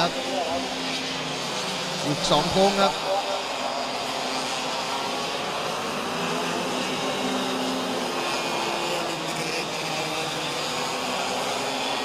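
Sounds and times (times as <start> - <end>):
kart engines buzzing at high revs: 0.0 - 12.0.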